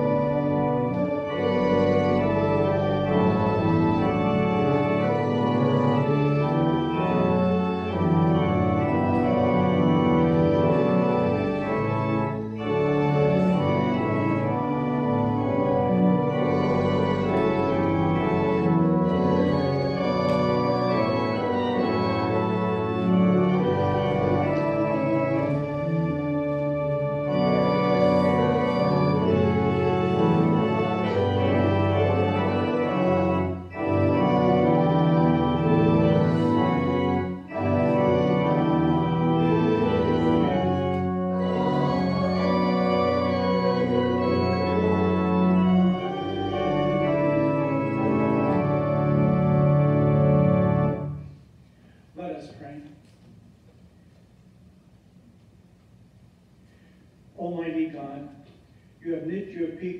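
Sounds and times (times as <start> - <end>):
church organ playing chords: 0.0 - 52.8.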